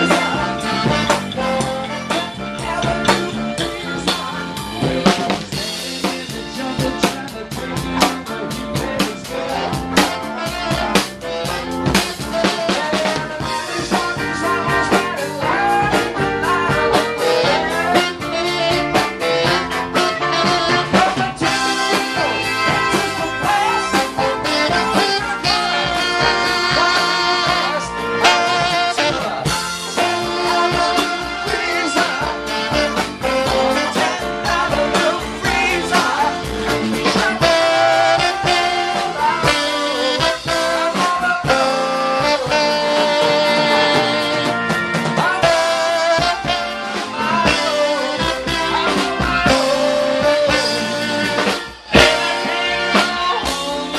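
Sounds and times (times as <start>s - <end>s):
drum kit beat: 0.0s - 53.9s
live band music: 0.0s - 53.9s.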